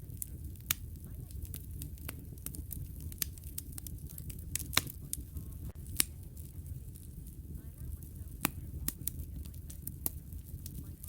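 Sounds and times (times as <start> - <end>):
fire crackling and popping: 0.0 - 11.0
low rumble of flames: 0.0 - 11.0.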